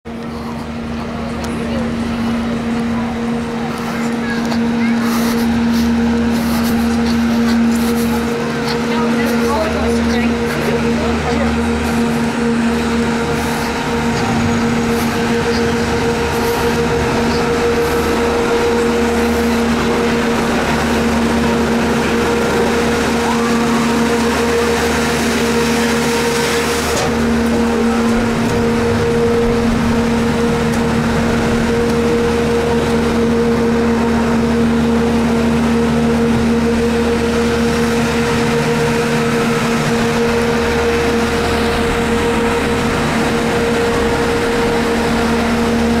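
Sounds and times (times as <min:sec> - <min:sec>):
gondola lift mechanical hum: 0:00.0 - 0:46.0.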